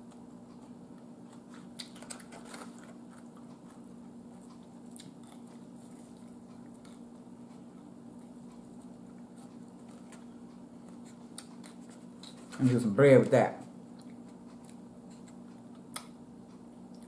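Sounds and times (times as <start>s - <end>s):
steady low hum: 0.0s - 17.0s
person chewing meat: 0.1s - 12.5s, 13.8s - 17.0s.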